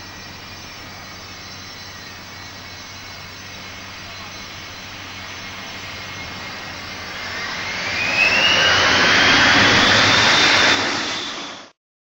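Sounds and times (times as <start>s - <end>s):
jet engines spooling up: 0.0s - 11.8s.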